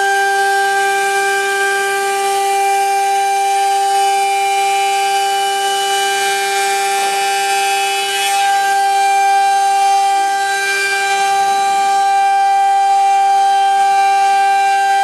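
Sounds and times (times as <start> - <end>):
cnc router spindle whining: 0.0 - 15.0
router bit hissing through wood: 0.0 - 15.0.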